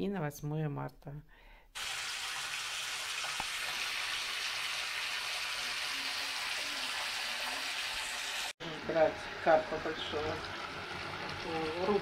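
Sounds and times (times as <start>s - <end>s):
water running into bathtub: 1.8s - 12.0s.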